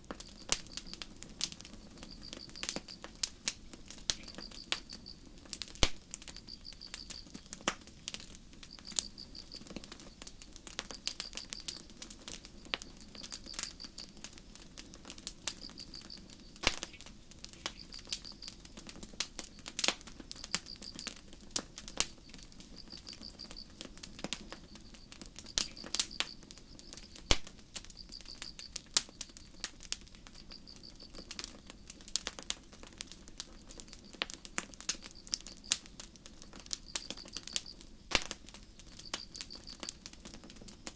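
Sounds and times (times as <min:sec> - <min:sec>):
campfire crackling and popping: 0:00.0 - 0:40.9
crickets chirping: 0:00.0 - 0:40.9
low rush of burning wood: 0:00.0 - 0:40.9.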